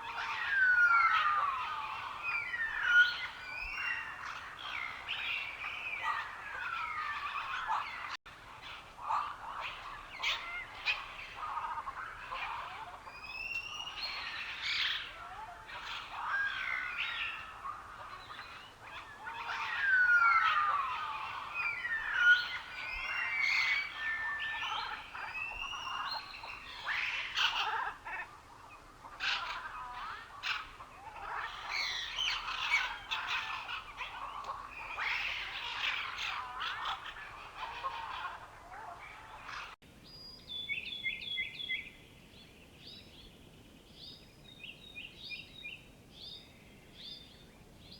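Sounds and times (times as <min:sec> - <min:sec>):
songbirds singing in chorus: 0:00.0 - 0:47.9.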